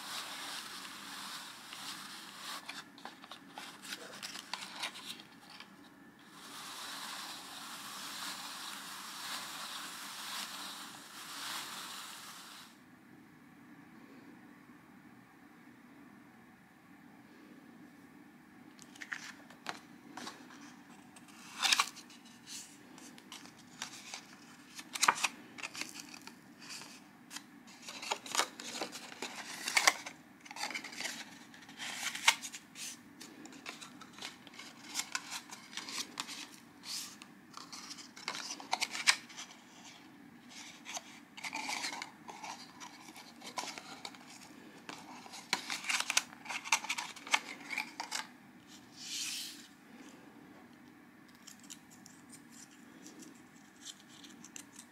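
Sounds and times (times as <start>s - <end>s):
stiff paper crackling as folded: 0.0s - 12.7s, 18.9s - 48.3s, 51.4s - 54.9s.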